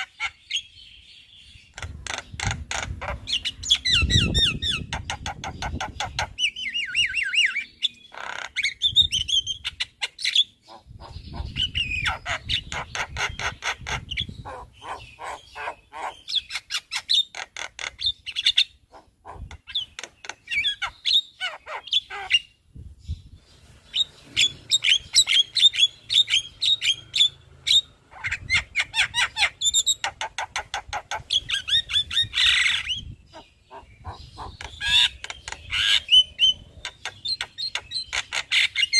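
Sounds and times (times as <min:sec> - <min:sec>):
myna bird chattering and squawking: 0:00.0 - 0:22.6, 0:23.6 - 0:38.9.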